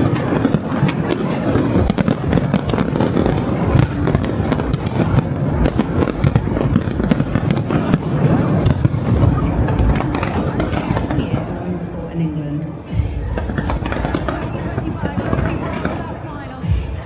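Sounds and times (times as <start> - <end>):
crowd voices: 0.0 - 17.0
fireworks bangs and crackles: 0.0 - 17.0
music: 0.0 - 17.0.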